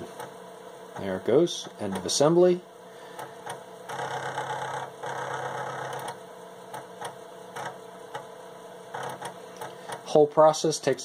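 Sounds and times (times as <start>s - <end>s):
computer hum: 0.0s - 11.0s
floppy disk drive whirring: 0.0s - 11.0s.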